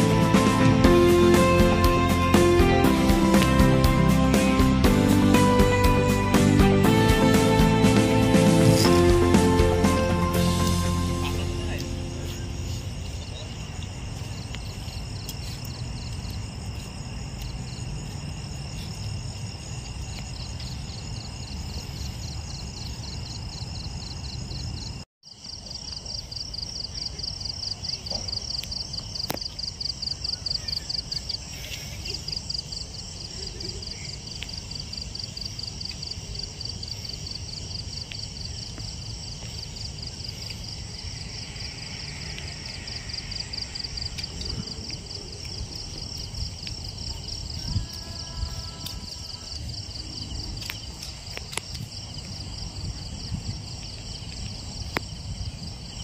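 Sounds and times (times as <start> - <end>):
pulsing insect call: 0.0 - 56.0
insects trilling: 11.0 - 56.0.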